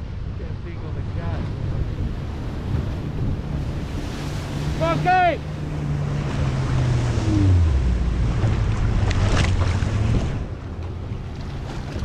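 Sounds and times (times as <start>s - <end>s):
jet ski engine passing: 0.0s - 12.0s
sea wash: 0.0s - 12.0s
wind on microphone: 0.0s - 12.0s.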